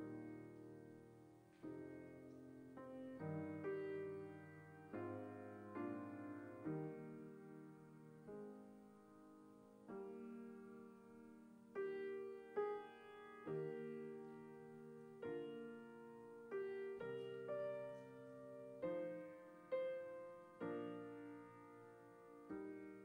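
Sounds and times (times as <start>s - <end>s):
slow quiet piano chords: 0.0s - 23.0s.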